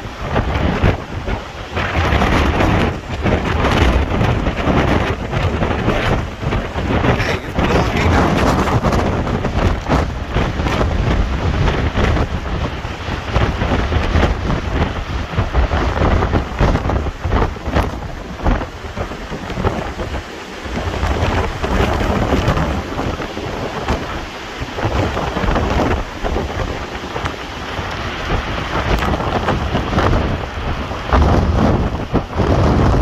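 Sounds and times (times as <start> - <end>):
deep rumble: 0.0 - 33.0
wind and rain buffeting microphone: 0.0 - 33.0.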